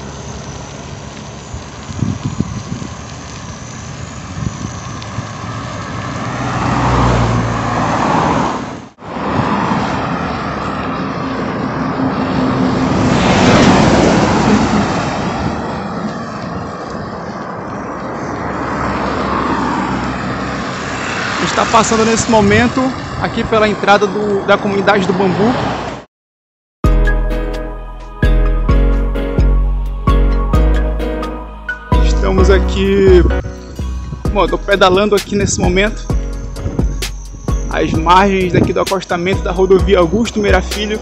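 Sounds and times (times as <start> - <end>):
road traffic rushing past: 0.0 - 26.1, 26.9 - 41.0.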